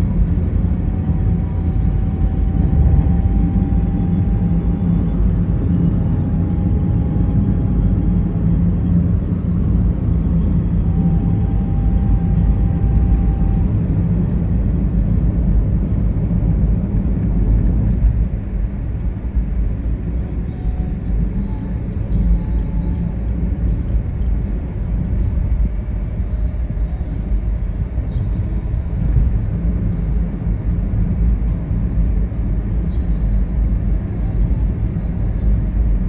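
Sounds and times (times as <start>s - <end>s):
car interior road rumble: 0.0s - 36.0s.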